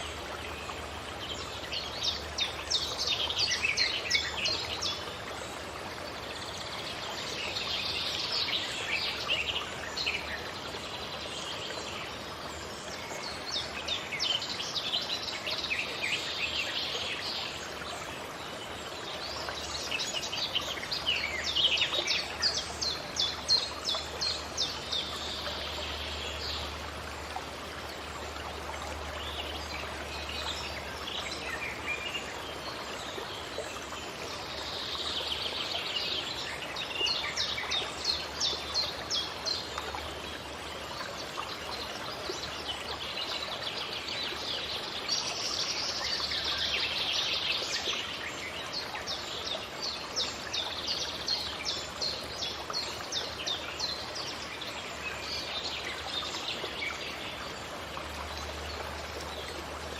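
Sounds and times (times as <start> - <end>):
forest birds chirping and trilling: 0.0 - 59.9.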